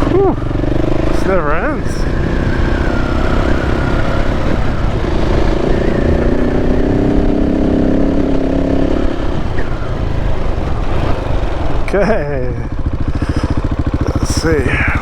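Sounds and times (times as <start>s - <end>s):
motorcycle engine running: 0.0s - 15.0s
steady rumble: 0.0s - 15.0s.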